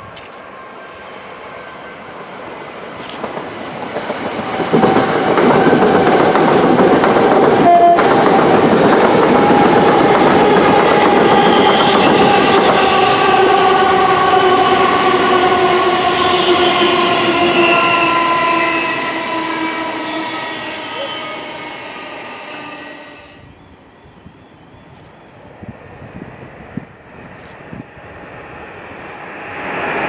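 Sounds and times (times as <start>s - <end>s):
train passing close by: 0.0s - 30.0s.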